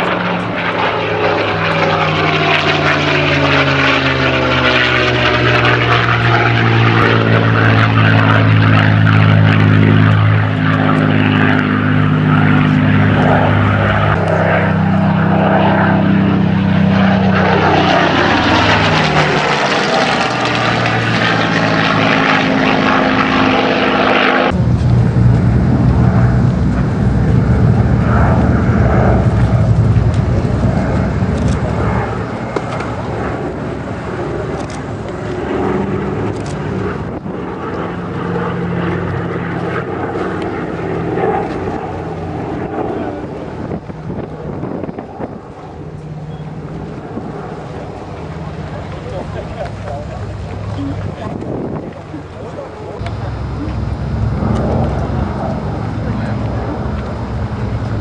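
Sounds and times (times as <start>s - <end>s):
propeller plane engine droning: 0.0s - 58.0s
twin engine plane droning: 0.0s - 58.0s.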